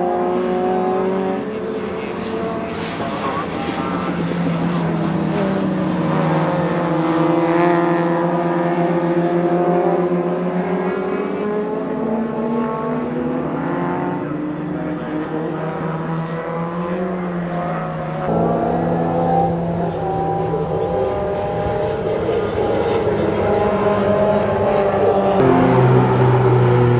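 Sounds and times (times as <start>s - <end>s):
racing car engine at high revs: 0.0s - 26.9s.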